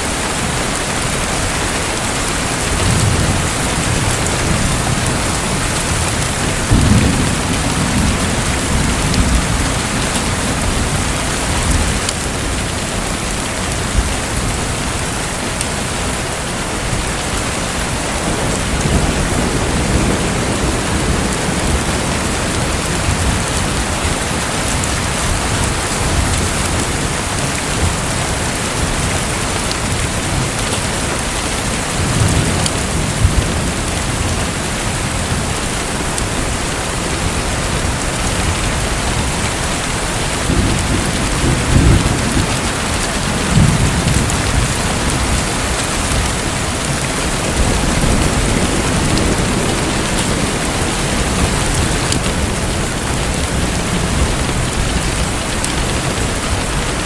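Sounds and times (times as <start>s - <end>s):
rushing splashing water: 0.0s - 57.0s.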